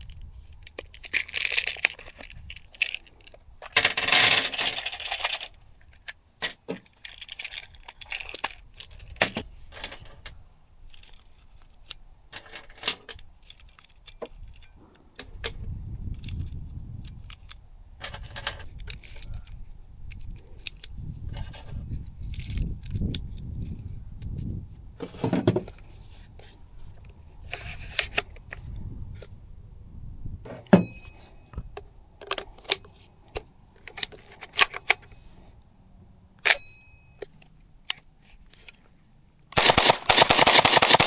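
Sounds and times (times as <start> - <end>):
metallic clicks and rattles of rifle: 0.0 - 28.7, 30.5 - 35.4, 36.4 - 41.0.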